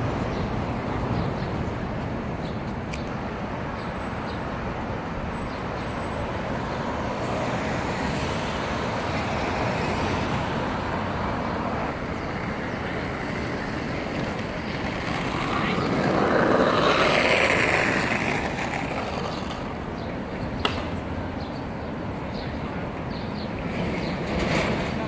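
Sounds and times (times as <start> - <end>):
cars passing on street: 0.0 - 25.0.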